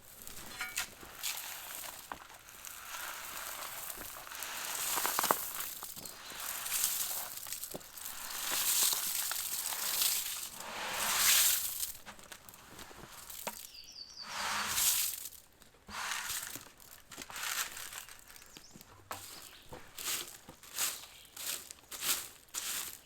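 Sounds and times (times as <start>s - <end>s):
rustling and crinkling: 0.0s - 23.0s.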